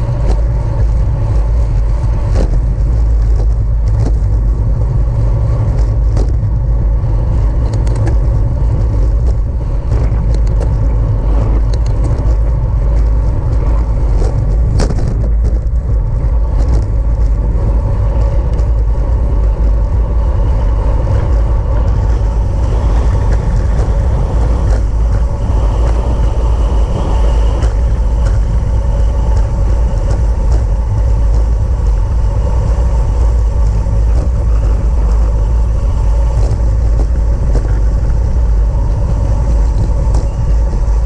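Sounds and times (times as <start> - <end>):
wind and road noise: 0.0 - 41.0
wind buffeting microphone: 0.0 - 41.0.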